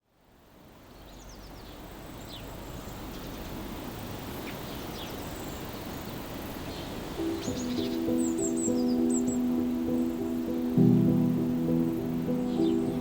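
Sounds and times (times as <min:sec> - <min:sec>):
steady low background noise: 0:00.0 - 0:13.0
small birds chirping: 0:00.4 - 0:13.0.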